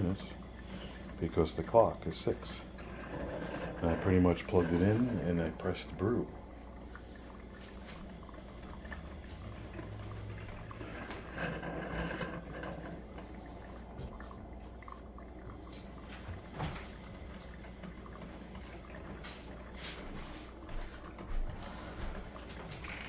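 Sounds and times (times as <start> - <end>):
coffee maker gurgling and hissing: 0.0 - 23.0.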